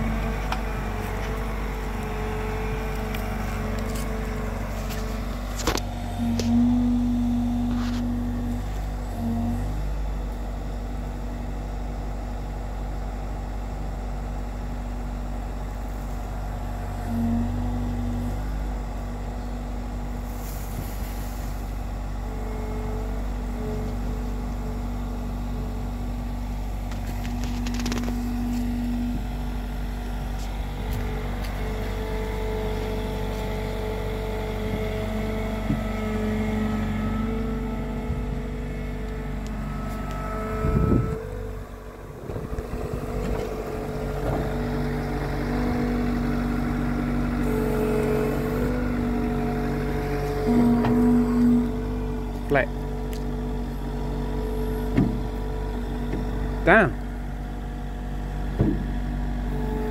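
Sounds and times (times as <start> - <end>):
hydraulic whine: 0.0 - 12.6, 14.7 - 59.9
diesel engine running: 0.0 - 59.9.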